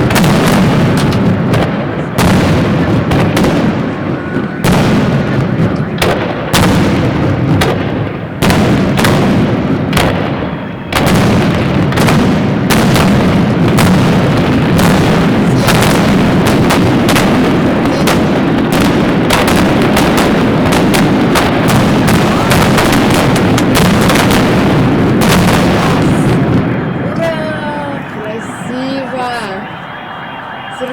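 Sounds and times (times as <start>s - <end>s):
fireworks shells banging: 0.0s - 5.0s, 5.6s - 26.9s.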